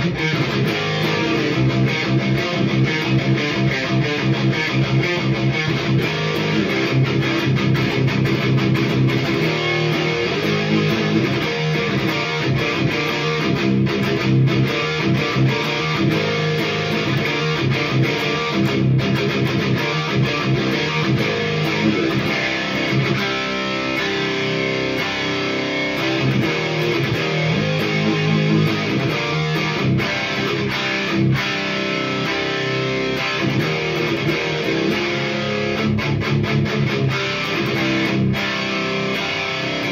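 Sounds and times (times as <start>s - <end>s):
high-gain electric guitar riffs: 0.0s - 39.9s.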